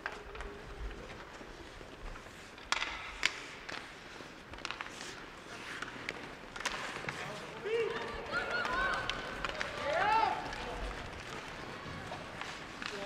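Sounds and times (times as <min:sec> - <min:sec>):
hockey sticks and puck clacking: 0:00.0 - 0:13.0
skate blades scraping ice: 0:00.0 - 0:13.0.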